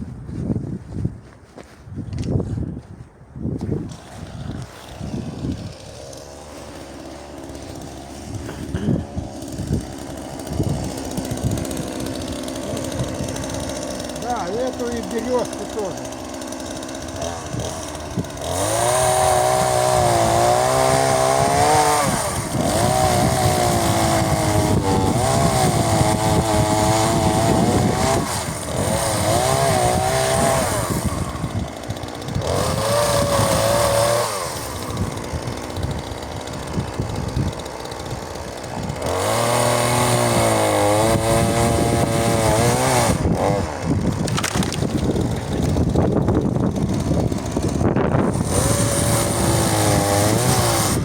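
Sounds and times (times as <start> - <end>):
chainsaw revving while cutting: 3.9 - 51.0.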